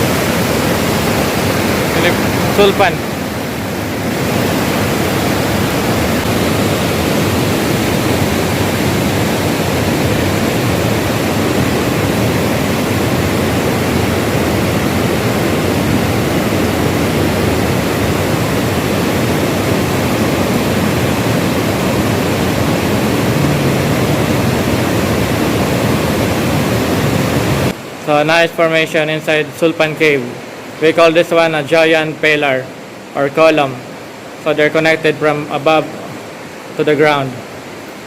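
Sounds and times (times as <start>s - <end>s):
flowing water rushing: 0.0s - 38.0s.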